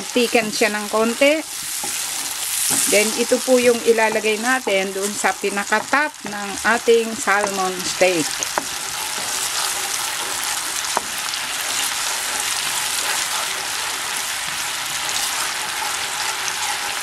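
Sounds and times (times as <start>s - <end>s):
sauce sizzling in a frying pan: 0.0s - 17.0s
wooden spatula stirring: 0.2s - 17.0s.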